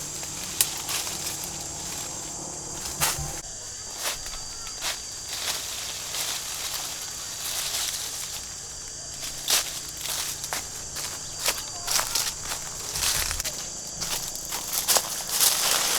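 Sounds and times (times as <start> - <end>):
high-pitched insect drone: 0.0 - 15.9
rustling in vegetation: 0.0 - 15.9.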